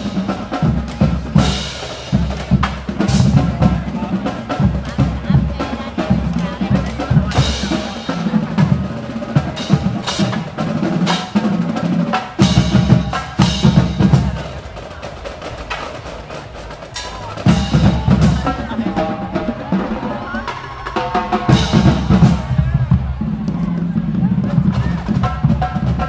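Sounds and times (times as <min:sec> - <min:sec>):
bass drums: 0:00.0 - 0:26.0
snare drums: 0:00.0 - 0:26.0.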